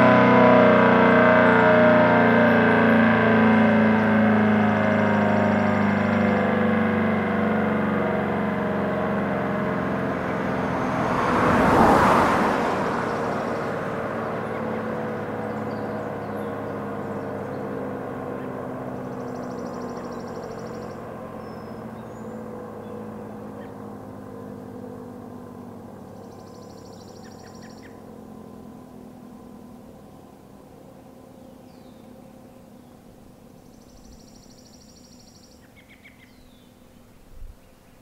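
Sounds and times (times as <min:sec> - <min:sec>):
warning sirens winding down: 0:00.0 - 0:32.2
car passing: 0:00.0 - 0:37.9.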